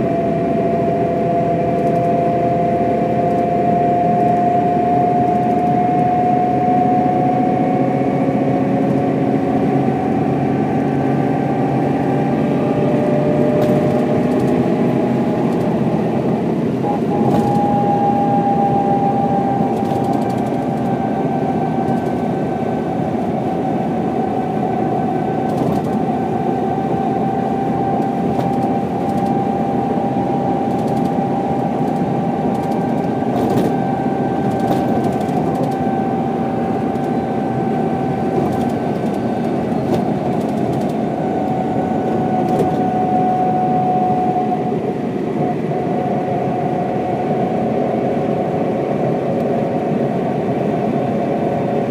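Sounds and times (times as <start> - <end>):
bus diesel engine running: 0.0 - 51.9
high whine: 0.0 - 51.9.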